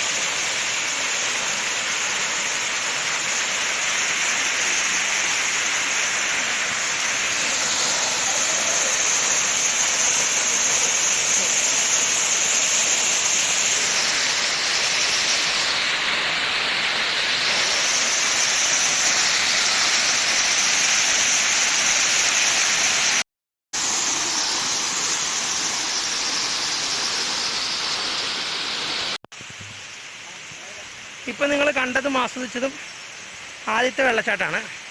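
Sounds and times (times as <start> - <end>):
waterfall rushing: 0.0 - 23.2, 23.8 - 34.9.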